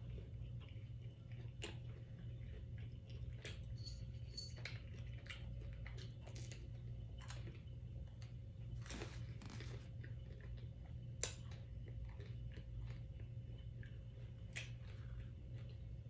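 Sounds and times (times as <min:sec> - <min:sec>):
chewing food close up: 0:00.0 - 0:16.0.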